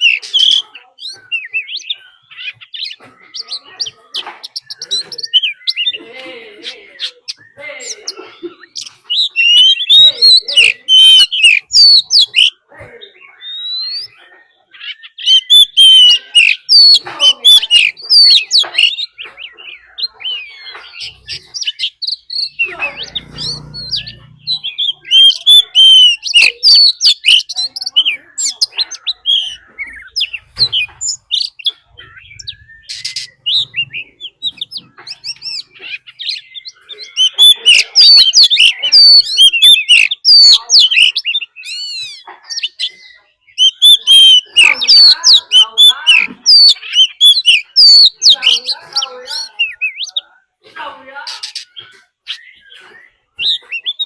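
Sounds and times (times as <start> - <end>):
magpie-robin whistled song: 0.0 - 6.0, 6.6 - 50.3, 51.3 - 54.0.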